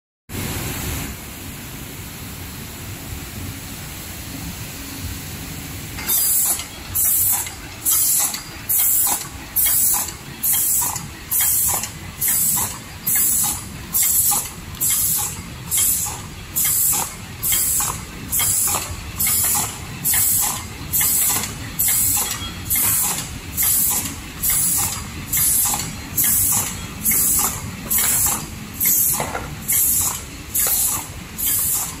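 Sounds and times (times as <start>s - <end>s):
machine running: 5.9s - 32.0s.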